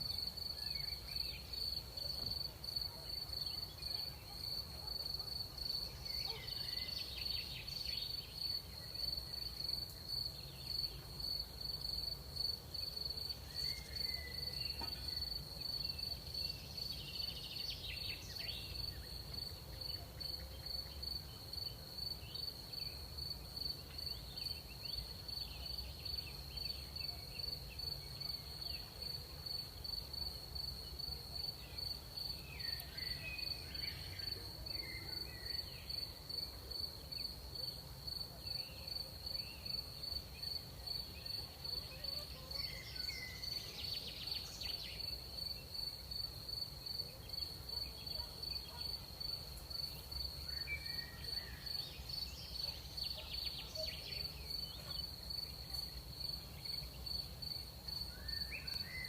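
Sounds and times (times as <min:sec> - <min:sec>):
crickets chirping: 0:00.0 - 0:59.0
faint insect chirps: 0:00.0 - 0:59.0.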